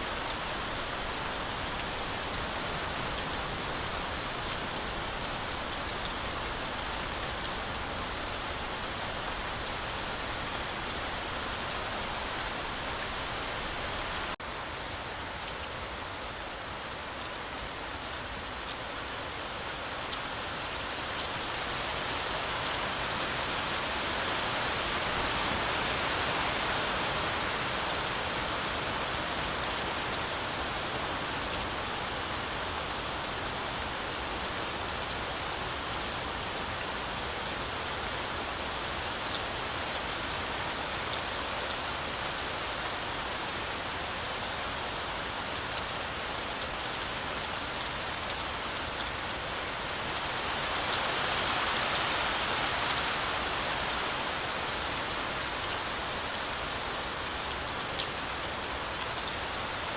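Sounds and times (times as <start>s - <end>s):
heavy rain through trees: 0.0s - 59.9s.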